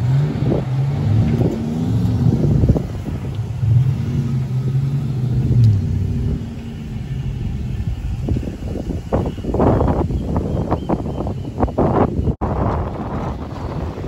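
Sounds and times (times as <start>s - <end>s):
vehicle engine working hard: 0.0s - 14.0s.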